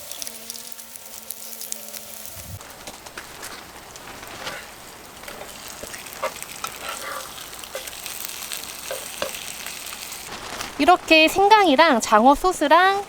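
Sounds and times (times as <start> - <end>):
fat popping and crackling: 0.0 - 13.0
fish sizzling on a grill: 0.0 - 13.0.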